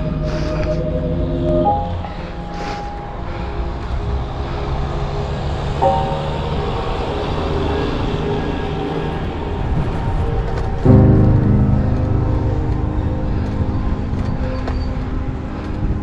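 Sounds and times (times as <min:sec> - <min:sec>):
quiet background music: 0:00.0 - 0:16.0
wind and riding noise: 0:00.0 - 0:16.0.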